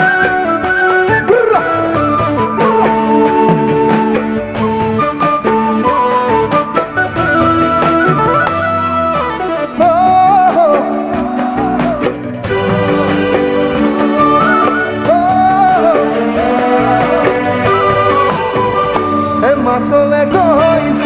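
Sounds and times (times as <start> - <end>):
bending melody line: 0.0 - 21.0
drum kit: 0.0 - 21.0
keyboard: 0.0 - 21.0.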